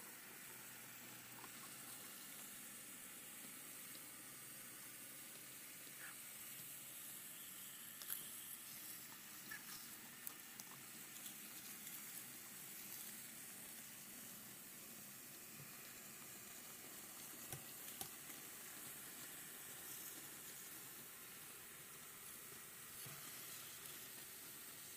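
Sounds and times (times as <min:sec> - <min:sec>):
faint steady hiss: 0:00.0 - 0:24.9.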